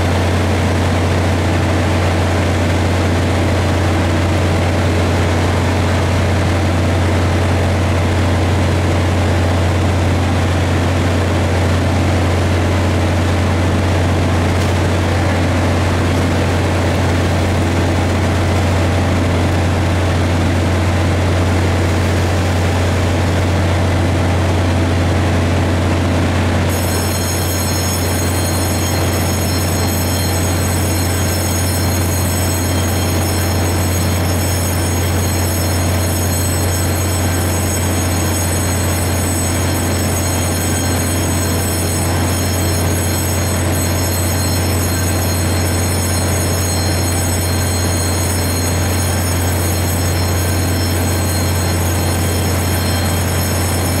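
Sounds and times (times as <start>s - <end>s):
constant high whine: 0.0s - 54.0s
train equipment humming: 0.0s - 54.0s.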